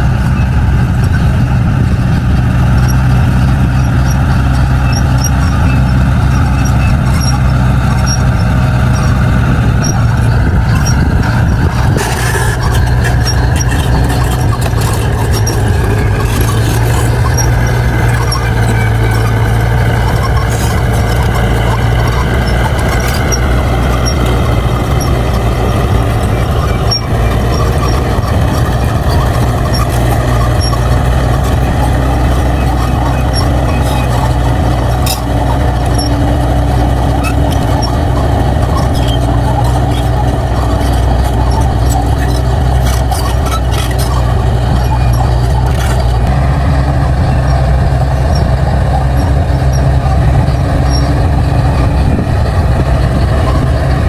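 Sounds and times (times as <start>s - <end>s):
bulldozer diesel engine running: 0.0s - 54.0s
metallic squeaks and ticks: 0.0s - 54.0s.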